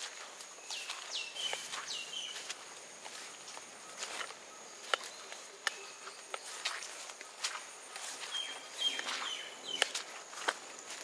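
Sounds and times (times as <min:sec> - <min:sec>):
footsteps on wet ground: 0:00.0 - 0:11.0
high insect drone: 0:00.0 - 0:11.0.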